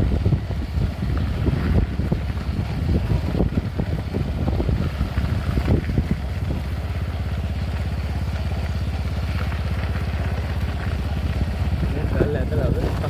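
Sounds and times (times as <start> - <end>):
irregular rumbling and knocking: 0.0 - 13.0
vehicle engine running: 0.0 - 13.0.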